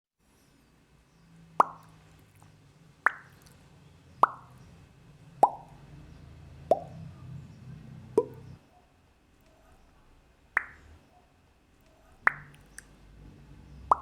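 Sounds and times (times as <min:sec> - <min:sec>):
faint low hum: 0:00.2 - 0:14.0.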